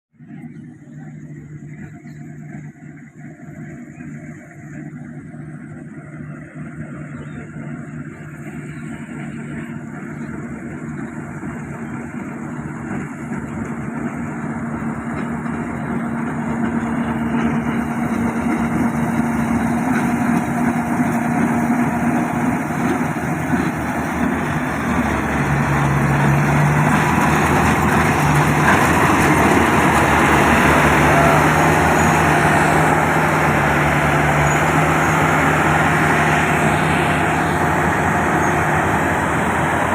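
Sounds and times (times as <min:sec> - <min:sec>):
combine harvester engine drone: 0:00.2 - 0:39.9.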